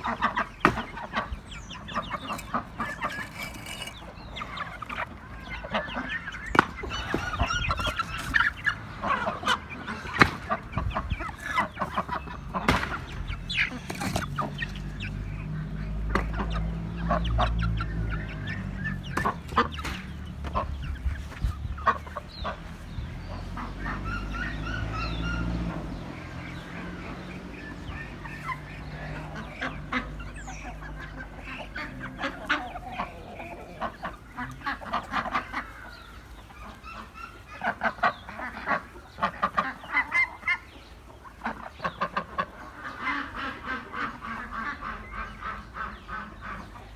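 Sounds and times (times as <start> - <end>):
chickens clucking softly: 0.0 - 46.9.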